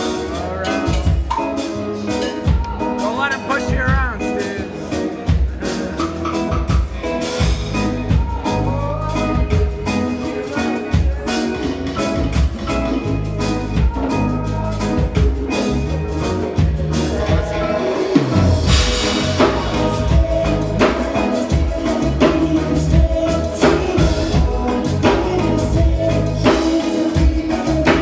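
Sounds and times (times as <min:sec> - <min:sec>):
drum kit beat: 0:00.0 - 0:28.0
live band playing amplified music: 0:00.0 - 0:28.0
low bass notes: 0:00.0 - 0:28.0.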